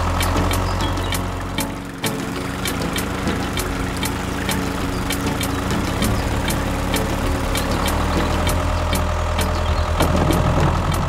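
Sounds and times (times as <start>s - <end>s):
regular ticking: 0.0s - 11.0s
tractor engine running: 0.0s - 11.0s.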